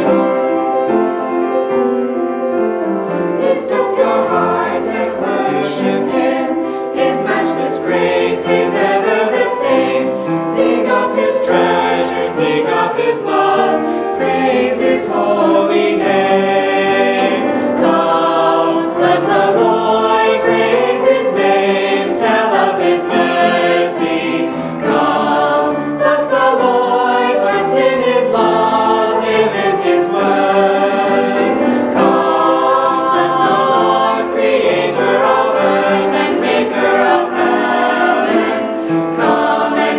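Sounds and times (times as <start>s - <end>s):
mixed choir singing a hymn: 0.0s - 1.3s, 2.8s - 39.9s.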